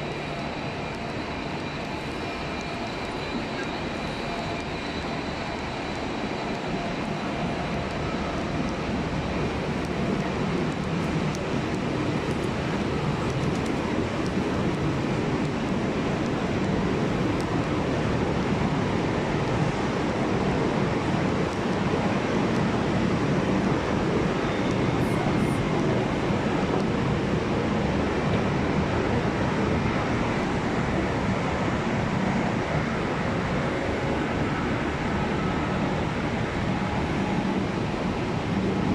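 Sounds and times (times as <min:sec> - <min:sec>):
railway station ambience rumble: 0:00.0 - 0:38.9.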